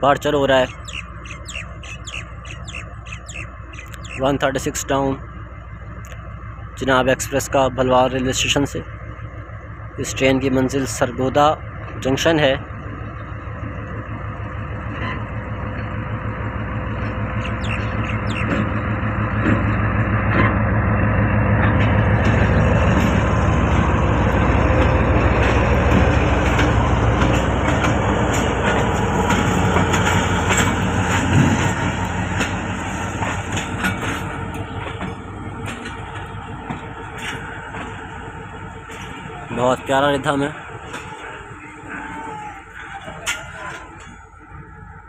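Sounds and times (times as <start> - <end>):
diesel locomotive engine: 0.0 - 45.0
train wheels clicking over rails: 0.2 - 4.7, 11.8 - 44.4.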